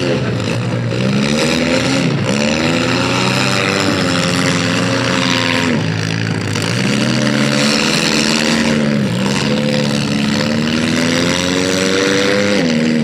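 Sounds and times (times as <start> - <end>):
car engines revving hard: 0.0 - 13.0
steady engine drone: 0.0 - 13.0.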